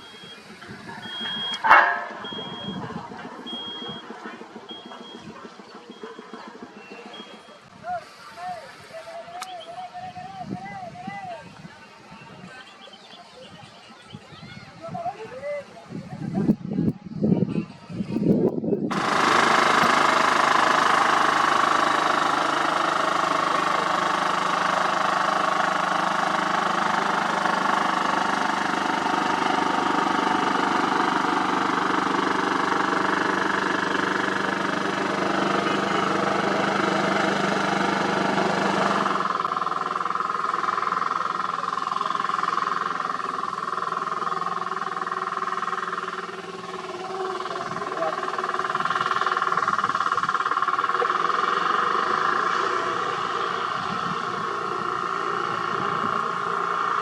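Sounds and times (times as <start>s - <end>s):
diesel paving machinery running: 0.0s - 16.0s, 17.8s - 57.0s.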